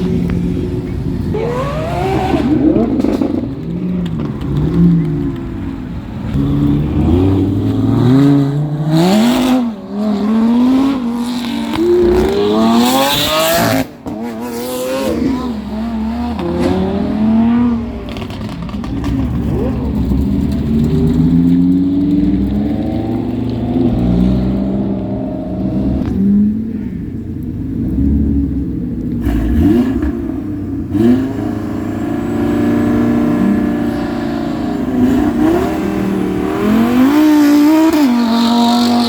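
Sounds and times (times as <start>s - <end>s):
car engine revving: 0.0s - 27.0s, 27.6s - 39.0s.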